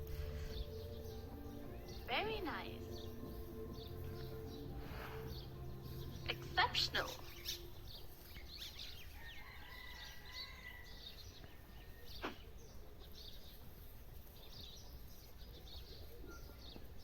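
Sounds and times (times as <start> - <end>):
faint background noise: 0.0 - 17.0
small bird chirps: 0.0 - 17.0.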